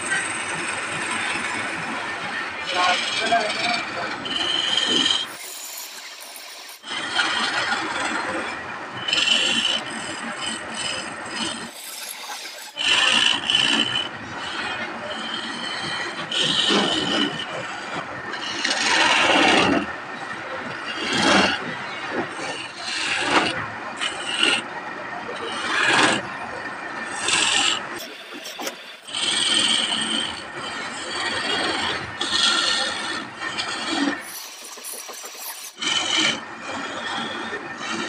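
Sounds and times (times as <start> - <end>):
chisel scraping spinning wood: 0.0 - 19.8, 22.2 - 24.6, 27.0 - 38.0.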